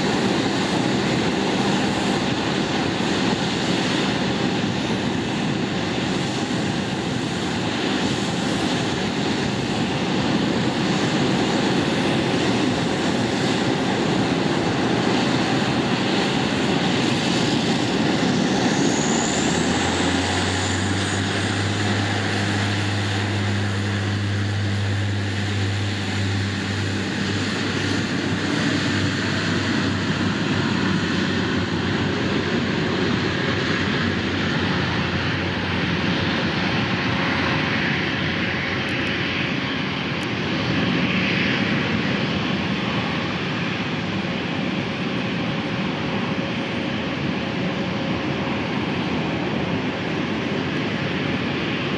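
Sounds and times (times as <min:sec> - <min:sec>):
low propeller drone: 0:00.0 - 0:51.9
turboprop engine roar: 0:00.0 - 0:51.9.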